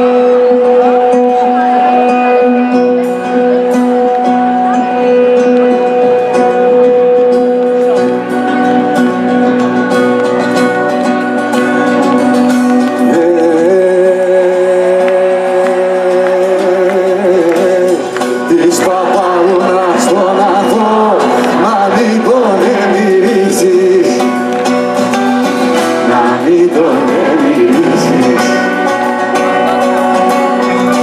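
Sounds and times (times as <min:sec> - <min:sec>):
man singing: 0:00.0 - 0:08.2, 0:11.9 - 0:25.0, 0:25.6 - 0:31.0
plucked lute folk music: 0:00.0 - 0:31.0.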